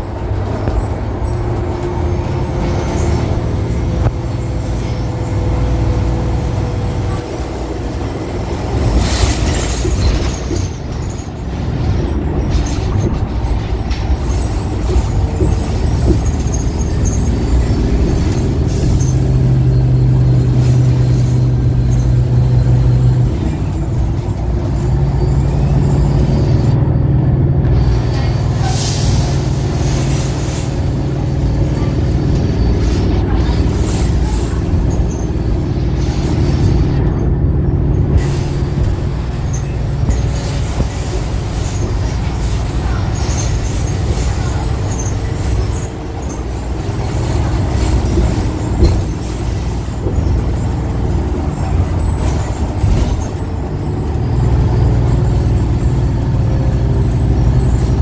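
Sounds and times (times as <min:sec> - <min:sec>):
bus drive hum and whine: 0:00.0 - 0:58.0
road noise: 0:00.0 - 0:58.0.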